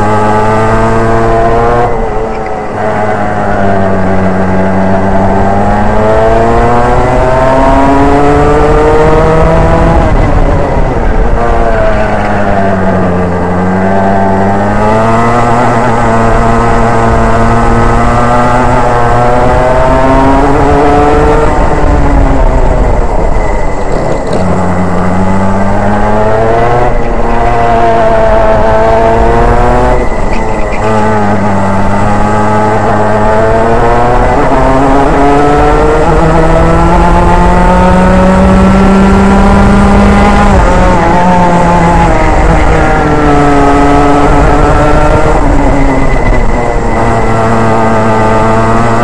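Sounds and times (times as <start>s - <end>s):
racing kart engine revving: 0.0s - 49.0s.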